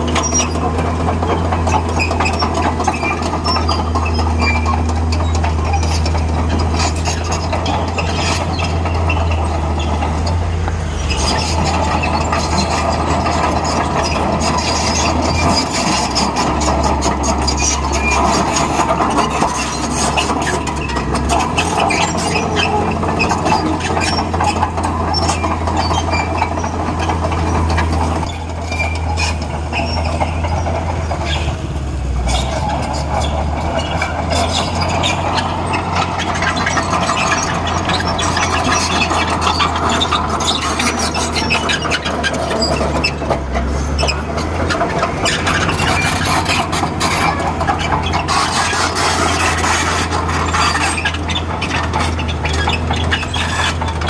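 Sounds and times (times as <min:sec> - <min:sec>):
bulldozer diesel engine running: 0:00.0 - 0:54.0
steel tracks clanking and squealing: 0:00.0 - 0:54.0.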